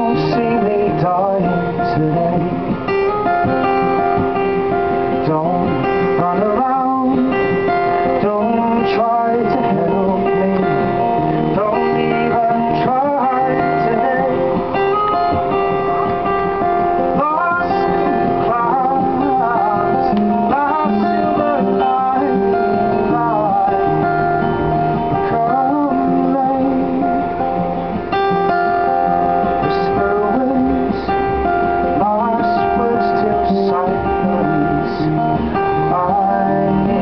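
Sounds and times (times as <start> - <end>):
man singing: 0.0 - 3.6, 5.0 - 27.8, 28.9 - 37.0
strummed acoustic guitar: 0.0 - 37.0.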